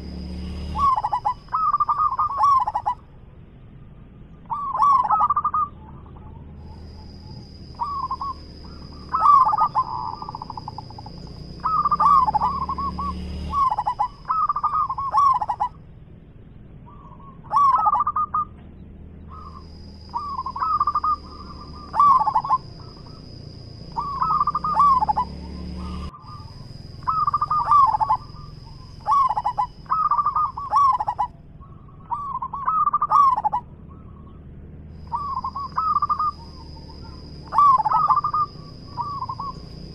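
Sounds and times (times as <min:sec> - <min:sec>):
dove cooing: 0:00.0 - 0:03.1, 0:04.4 - 0:15.9, 0:16.8 - 0:18.7, 0:19.3 - 0:39.9.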